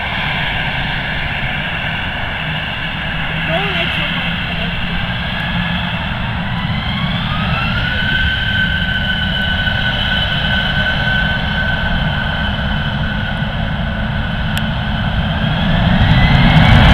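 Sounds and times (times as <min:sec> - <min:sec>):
jet engine whine: 0:00.0 - 0:16.9
loud jet engine rumble: 0:00.0 - 0:16.9.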